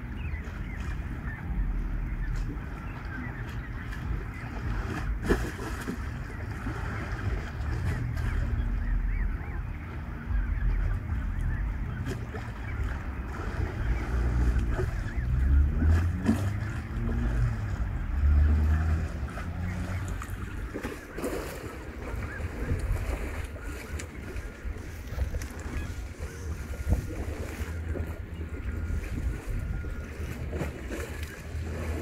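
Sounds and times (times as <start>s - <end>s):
geese and goslings calling: 0.0s - 32.0s
wind buffeting microphone: 0.0s - 32.0s.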